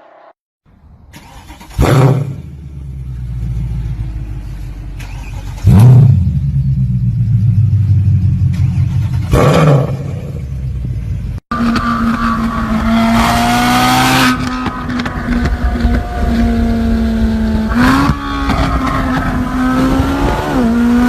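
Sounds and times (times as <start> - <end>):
car engine starting and idling: 0.7 - 19.6.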